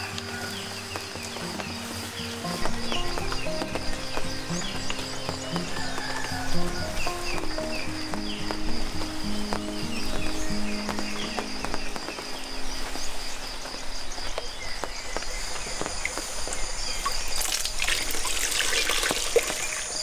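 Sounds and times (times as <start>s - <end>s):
flowing river water: 0.0s - 20.0s
insect trilling: 0.0s - 20.0s.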